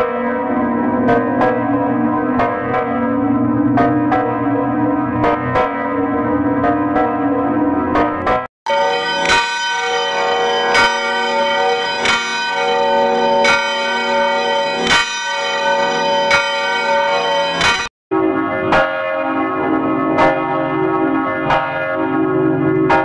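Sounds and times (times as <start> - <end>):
church bell tolling: 0.0 - 23.0
deeper bell tolling: 0.0 - 23.0.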